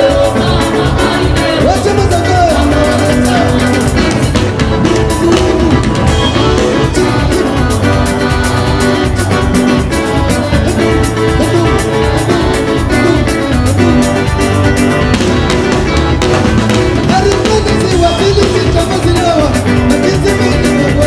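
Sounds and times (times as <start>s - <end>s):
live instrumental band music: 0.0s - 21.0s.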